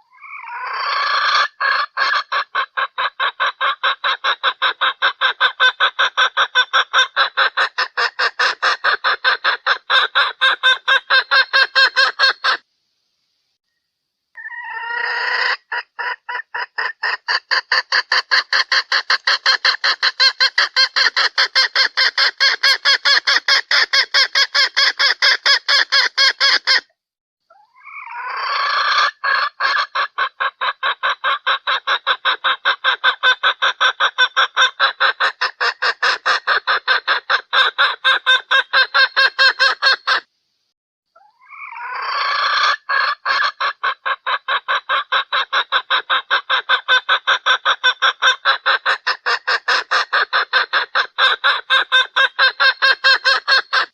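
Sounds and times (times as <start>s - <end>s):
hen clucking: 0.1s - 12.6s, 14.4s - 26.9s, 27.5s - 40.3s, 41.2s - 53.9s.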